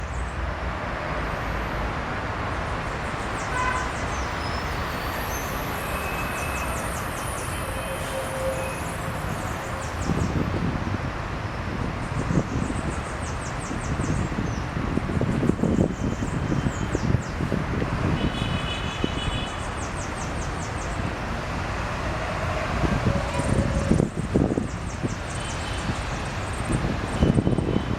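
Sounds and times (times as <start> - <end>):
city traffic rumble: 0.0 - 27.9
wind: 0.0 - 27.9.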